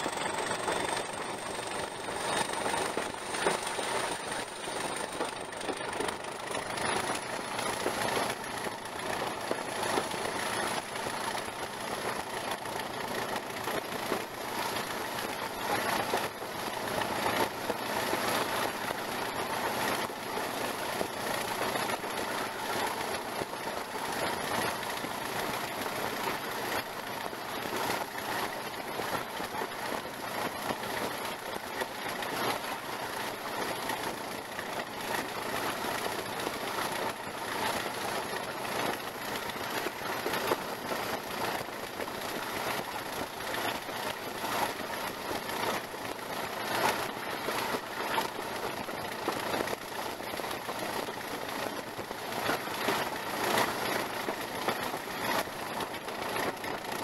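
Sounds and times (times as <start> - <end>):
diesel locomotive engine: 0.0 - 57.0
train wheels on rails: 0.0 - 57.0.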